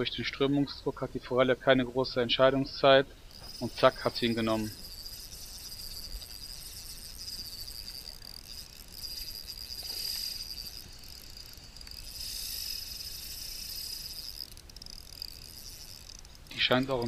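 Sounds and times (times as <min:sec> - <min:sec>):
insect chirring: 0:02.4 - 0:17.0.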